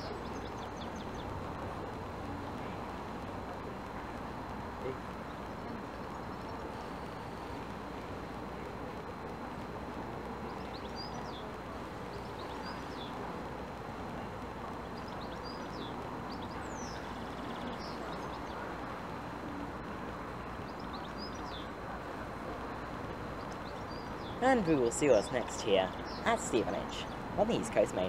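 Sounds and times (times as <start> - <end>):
outdoor background noise: 0.0 - 28.0
small birds chirping: 0.0 - 28.0.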